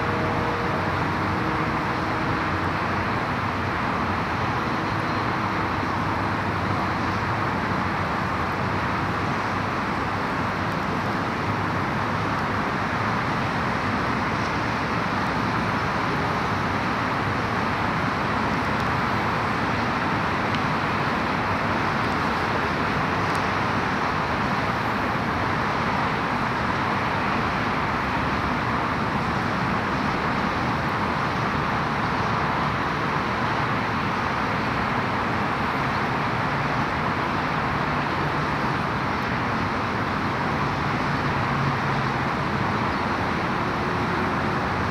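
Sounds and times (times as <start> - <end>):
road traffic noise: 0.0 - 44.9.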